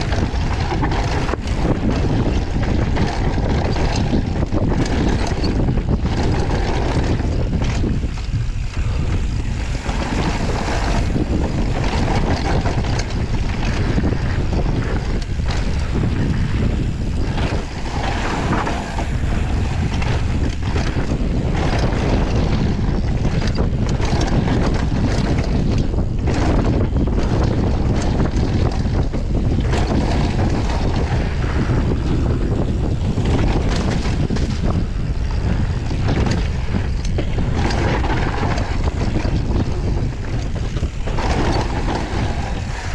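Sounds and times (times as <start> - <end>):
bike knocking on rocks: 0.0 - 42.9
bike rattling: 0.0 - 42.9
tyres rumbling on ground: 0.0 - 42.9
wind rushing over microphone: 0.0 - 42.9.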